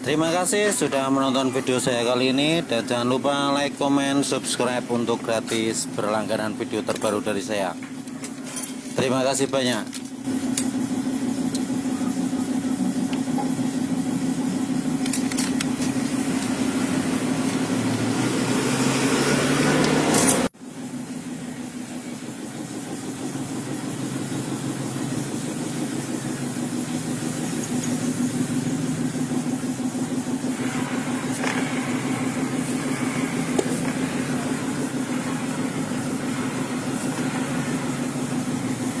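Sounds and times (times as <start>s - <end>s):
scooter engine running: 0.0s - 39.0s.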